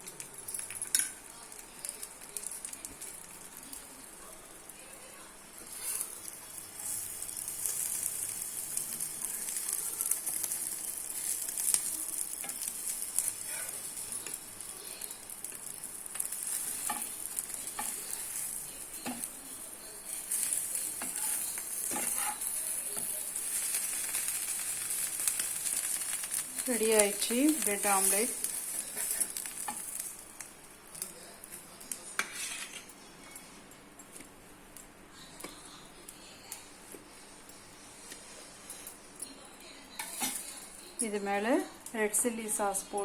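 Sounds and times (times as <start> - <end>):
omelette sizzling in oil: 0.0 - 33.0, 34.1 - 43.0.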